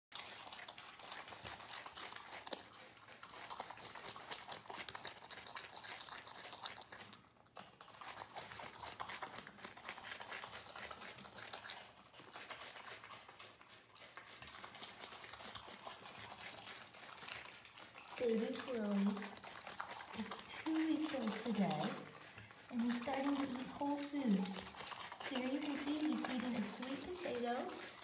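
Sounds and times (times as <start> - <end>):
porcupines chewing with wet crunches: 0.1 - 28.0.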